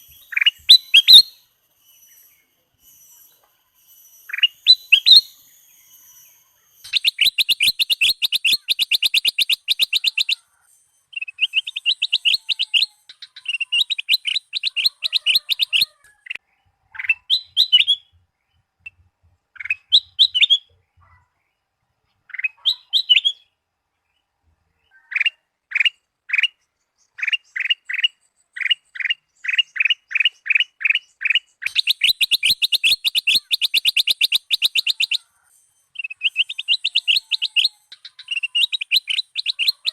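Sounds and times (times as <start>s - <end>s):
bird singing chattering trills: 0.0s - 18.6s, 19.6s - 21.2s, 22.1s - 23.6s, 24.8s - 39.9s.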